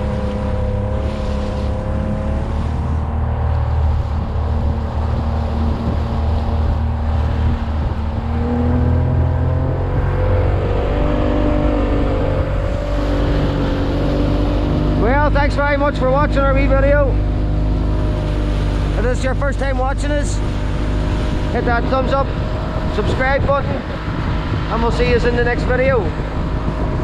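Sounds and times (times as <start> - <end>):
low rumble of hull and water: 0.0 - 27.0
outboard motor running: 0.0 - 27.0.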